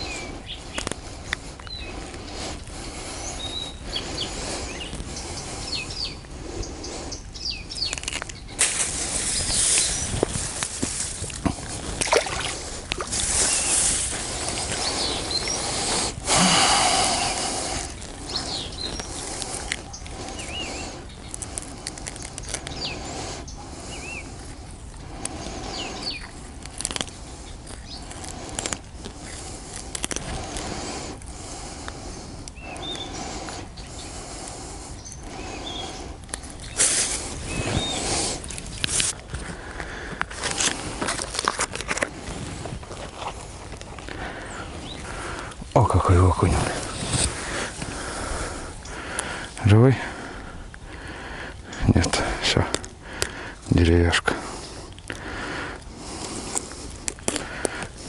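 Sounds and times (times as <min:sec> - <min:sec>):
hands working fish from a net: 0:00.6 - 0:03.3, 0:07.8 - 0:33.8, 0:34.5 - 0:45.8, 0:46.4 - 0:53.8.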